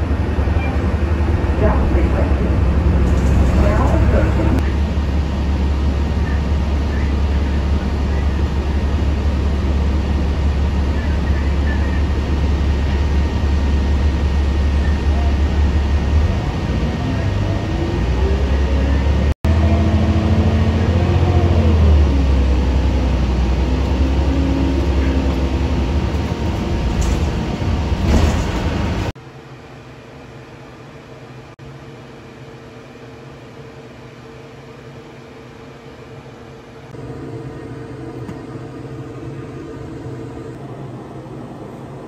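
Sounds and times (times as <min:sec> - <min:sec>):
bus engine and road rumble: 0:00.0 - 0:29.2, 0:33.2 - 0:42.0.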